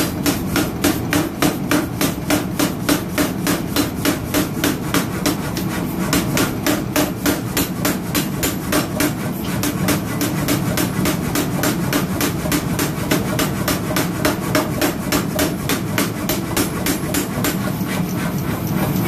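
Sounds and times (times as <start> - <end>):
power hammer pounding iron: 0.0 - 18.1.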